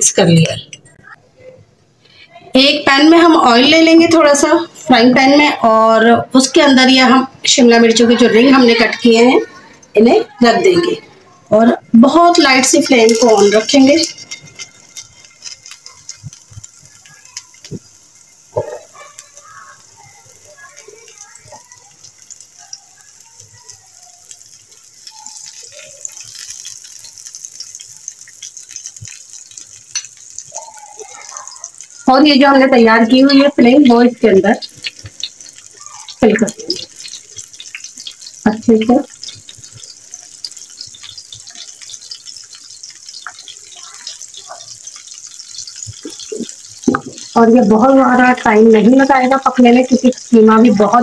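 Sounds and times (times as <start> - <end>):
peppers sizzling in oil: 0.0 - 51.0.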